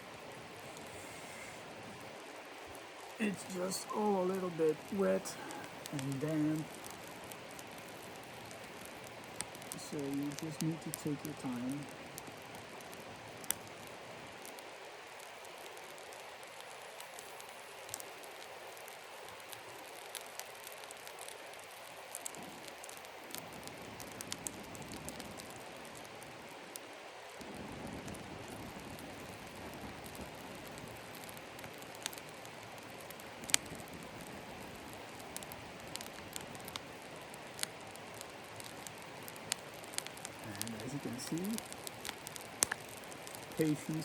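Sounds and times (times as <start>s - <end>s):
campfire crackling and popping: 0.0s - 44.0s
fire hissing: 0.0s - 44.0s
fire rushing: 0.0s - 44.0s.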